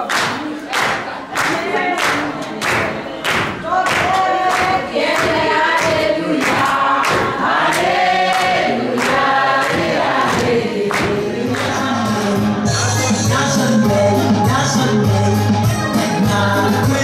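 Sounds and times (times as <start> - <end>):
voices singing together: 0.0 - 17.0.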